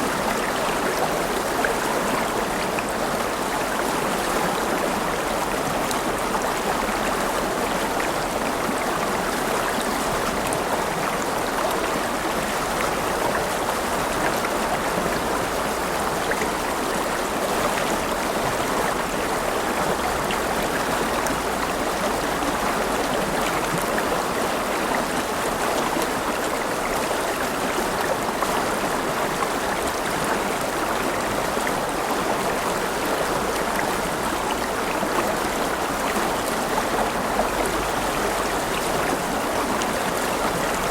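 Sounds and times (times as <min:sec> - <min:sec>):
river water over stones: 0:00.0 - 0:40.9.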